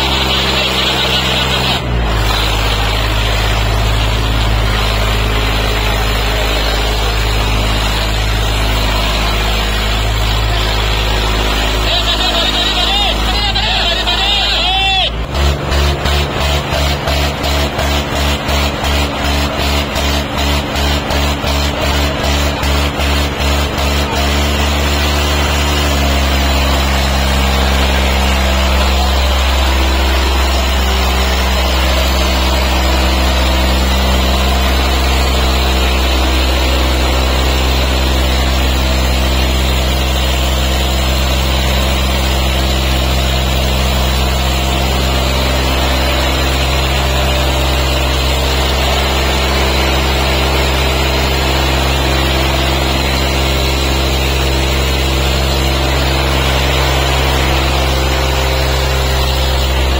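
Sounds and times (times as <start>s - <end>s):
diesel tractor engines droning: 0.0s - 59.9s.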